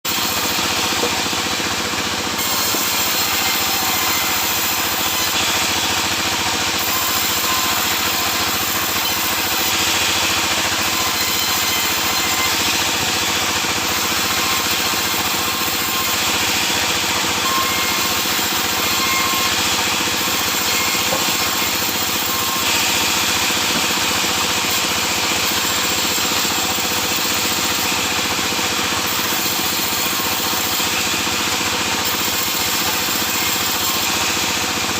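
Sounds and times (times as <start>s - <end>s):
sawmill saw cutting logs: 0.0s - 34.9s.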